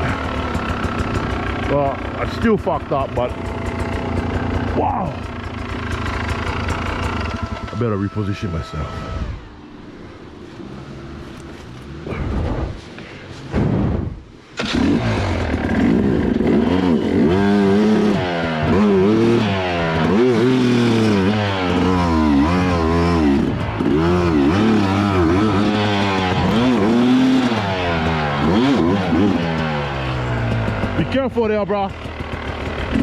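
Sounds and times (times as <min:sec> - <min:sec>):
dirt bike engine revving: 0:00.0 - 0:12.8, 0:13.8 - 0:33.0.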